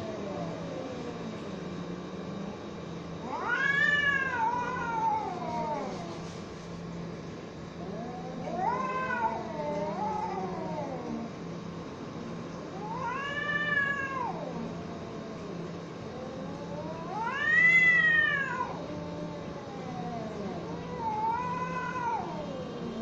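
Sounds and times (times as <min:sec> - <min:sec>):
cats caterwauling: 0:00.0 - 0:06.5, 0:07.7 - 0:11.5, 0:12.6 - 0:23.0.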